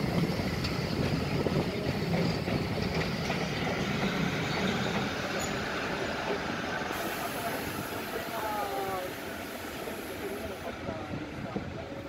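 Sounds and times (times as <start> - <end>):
locomotive running: 0.0 - 12.0.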